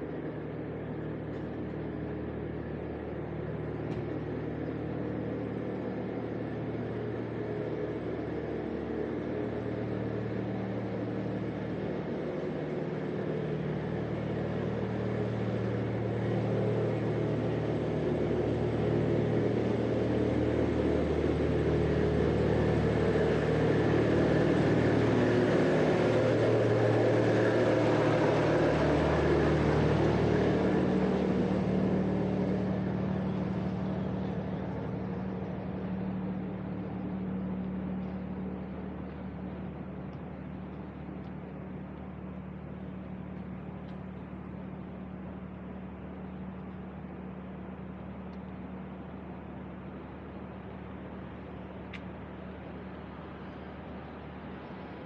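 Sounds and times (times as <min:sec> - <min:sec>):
lorry engine drone: 0:00.0 - 0:55.0.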